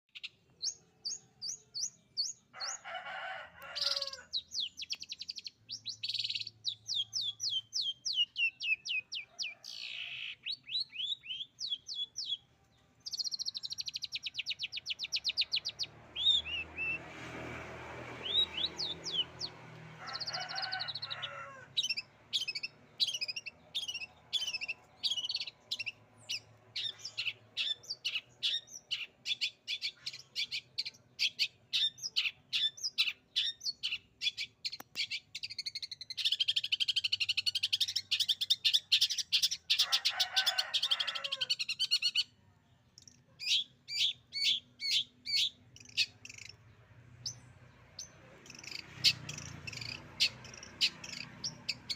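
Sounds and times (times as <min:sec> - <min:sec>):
bird singing fast trills: 0:00.1 - 0:02.6, 0:03.9 - 0:17.3, 0:18.1 - 0:20.4, 0:21.7 - 0:39.8, 0:41.6 - 0:51.9.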